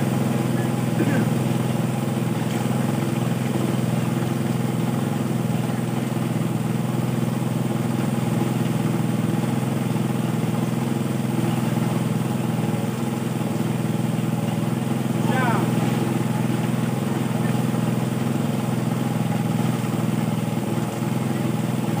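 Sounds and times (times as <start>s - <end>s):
water pump engine humming: 0.0s - 22.0s.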